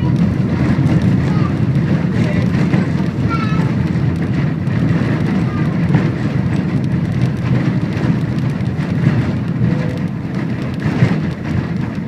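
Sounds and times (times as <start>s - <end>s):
tram rolling on rails: 0.0s - 12.0s
wind buffeting microphone: 0.0s - 12.0s.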